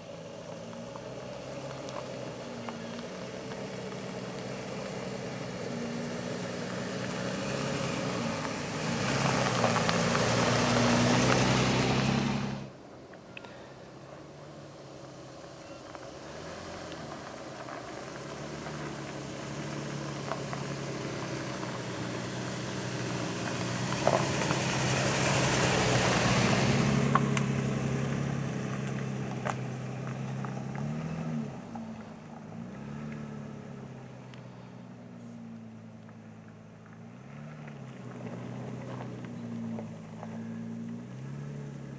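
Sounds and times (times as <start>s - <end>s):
pickup truck driving past: 0.0s - 12.8s, 13.4s - 41.9s.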